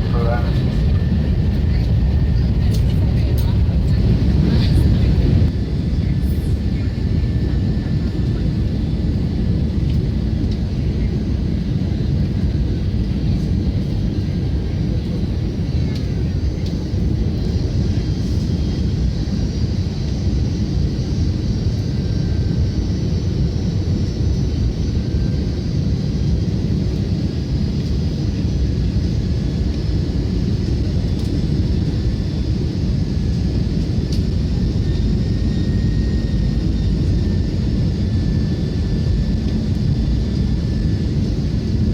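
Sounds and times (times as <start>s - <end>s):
aircraft cabin low rumble: 0.0s - 41.9s
faint steady whines: 0.0s - 41.9s.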